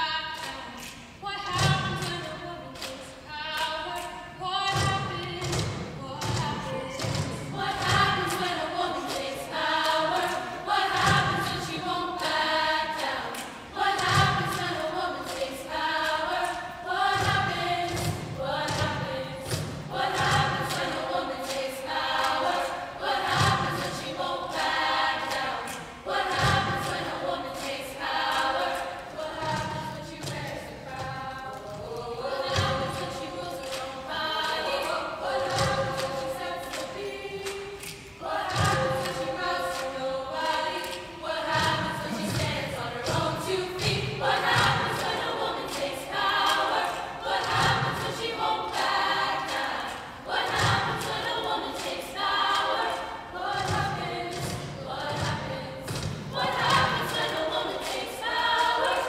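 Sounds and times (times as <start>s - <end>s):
youth choir singing: 0.0s - 59.0s.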